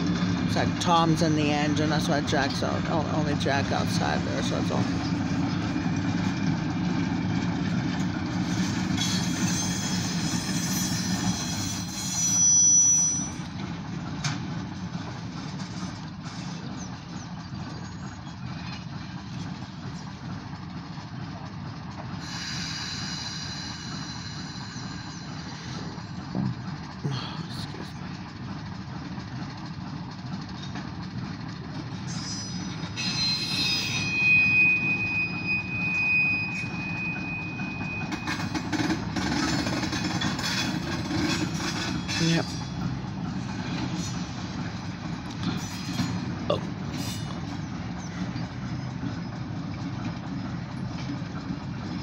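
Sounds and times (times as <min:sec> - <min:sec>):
high train squeals: 0:00.0 - 0:27.0, 0:30.1 - 0:52.0
distant freight train rumble: 0:00.0 - 0:52.0.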